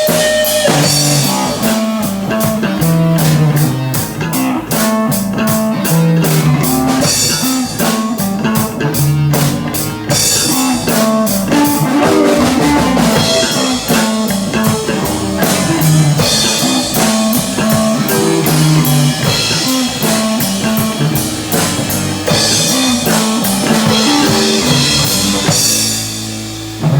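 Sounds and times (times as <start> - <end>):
bass guitar: 0.0 - 26.9
drum kit steady beat: 0.0 - 26.9
electric guitar: 0.0 - 26.9.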